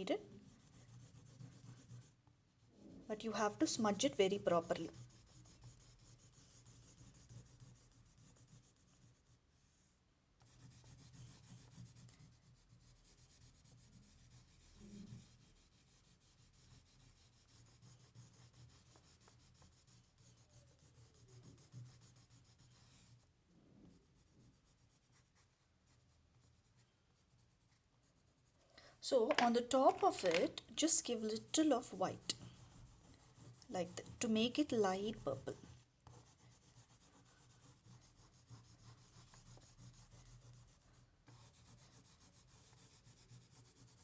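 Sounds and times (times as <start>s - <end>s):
oil pastel rubbing on paper: 0.0s - 23.2s, 24.0s - 44.0s.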